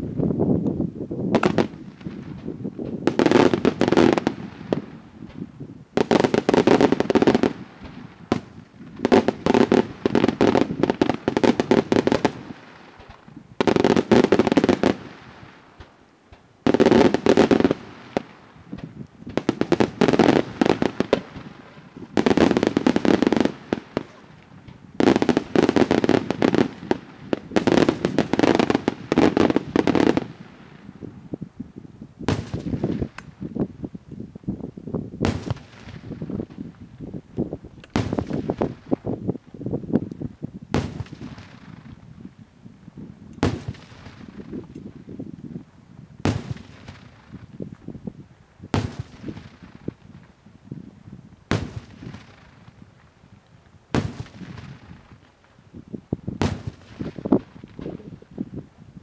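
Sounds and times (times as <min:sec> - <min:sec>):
fireworks crackling bursts: 0:01.3 - 0:31.5, 0:32.2 - 0:59.0.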